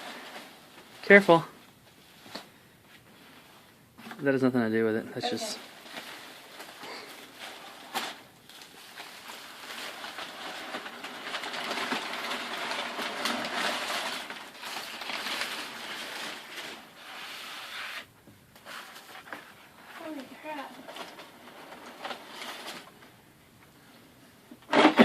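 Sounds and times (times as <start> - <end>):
wrapping paper crackling rustle: 0.0 - 2.5, 5.2 - 23.2.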